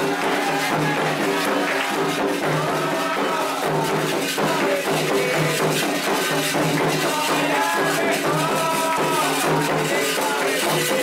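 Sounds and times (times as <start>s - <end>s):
drums beating steady rhythm: 0.0s - 11.0s
rattling shaker: 0.0s - 11.0s
voices singing: 0.0s - 11.0s.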